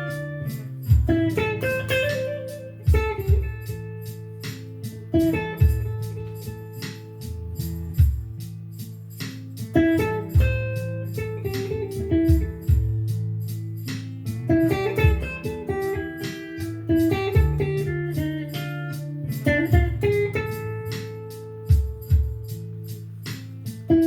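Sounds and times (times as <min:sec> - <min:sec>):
blues guitar playing: 0:00.0 - 0:24.0.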